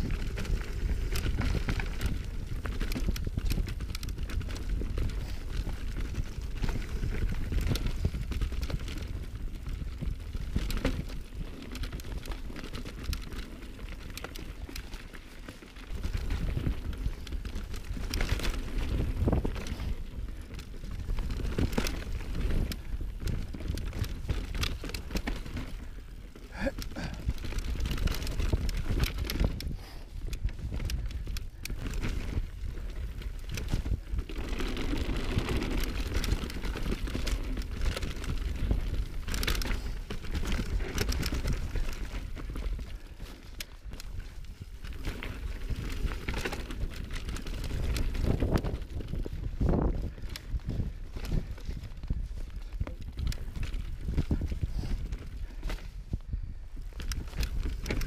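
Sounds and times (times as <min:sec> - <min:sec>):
bike rattling: 0:00.0 - 0:58.0
bike tyres crunching over rocks: 0:00.0 - 0:58.0
wind rumble on microphone: 0:00.0 - 0:58.0.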